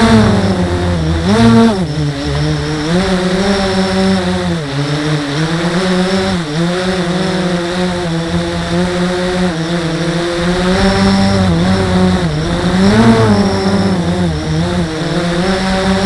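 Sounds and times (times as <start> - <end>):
quadcopter propellers buzzing: 0.0 - 16.0.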